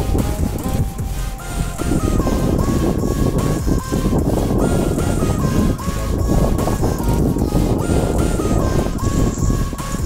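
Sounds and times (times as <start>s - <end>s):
background music with steady beat: 0.0s - 10.0s
continuous low rumble: 0.0s - 10.0s.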